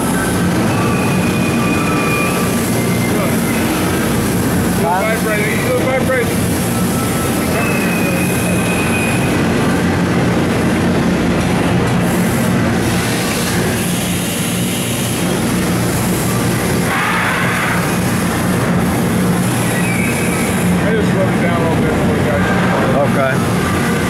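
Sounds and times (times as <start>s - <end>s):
coolant spray hissing: 0.0s - 9.4s, 12.0s - 22.4s
machine spindle humming: 0.0s - 24.0s.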